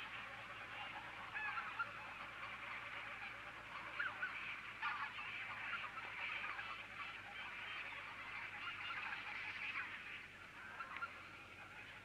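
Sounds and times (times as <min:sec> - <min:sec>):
flock of waterfowl calling: 0:00.0 - 0:12.0.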